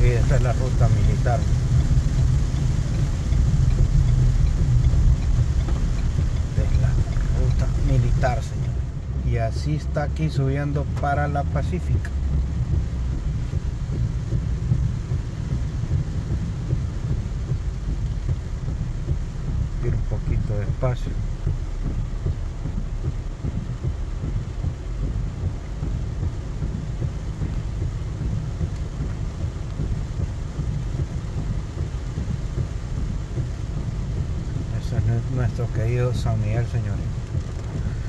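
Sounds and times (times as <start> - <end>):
car engine and road rumble: 0.0 - 38.0
rain on a car: 0.0 - 38.0.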